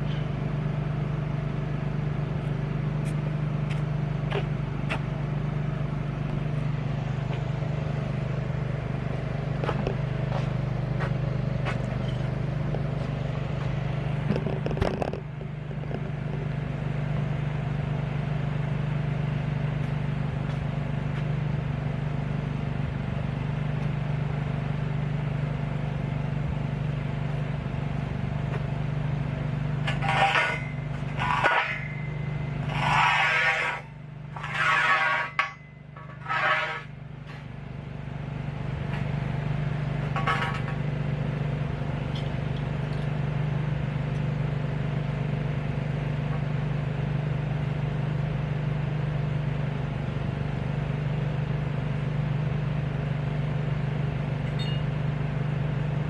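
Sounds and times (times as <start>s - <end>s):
welding generator engine running: 0.0s - 56.0s.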